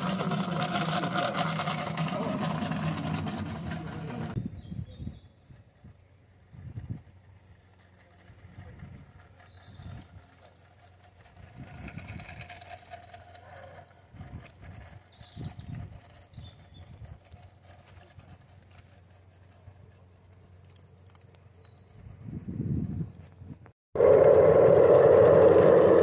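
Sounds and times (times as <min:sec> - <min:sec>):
miniature train wheels rumbling: 0:00.0 - 0:04.4, 0:05.4 - 0:26.0.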